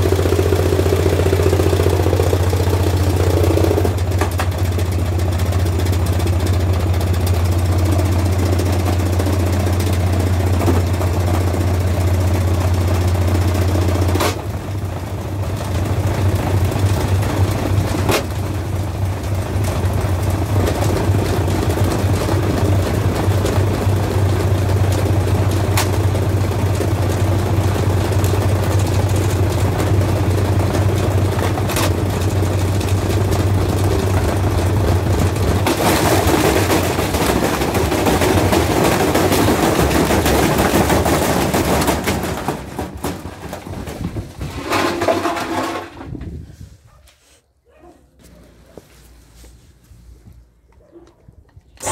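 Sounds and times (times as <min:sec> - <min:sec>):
washing machine running: 0:00.0 - 0:46.0.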